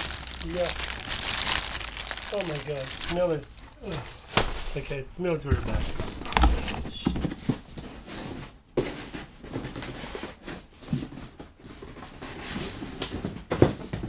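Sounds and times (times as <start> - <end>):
cardboard rustling and scraping: 2.1 - 14.0.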